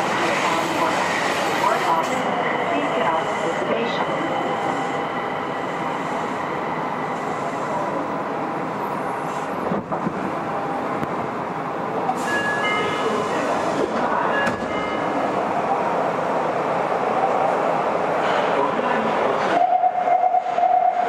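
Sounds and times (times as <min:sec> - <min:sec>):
subway train rail rumble: 0:00.0 - 0:21.0.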